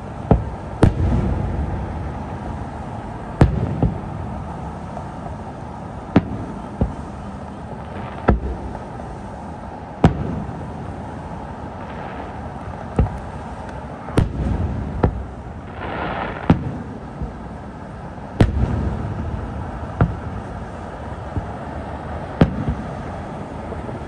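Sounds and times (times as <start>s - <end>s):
distant firework bangs: 0.0s - 24.0s
low rumbling echo: 0.0s - 24.0s.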